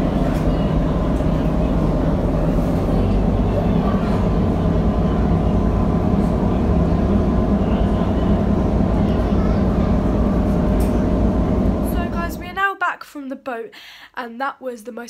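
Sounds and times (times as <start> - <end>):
boat engine low drone: 0.0 - 12.6.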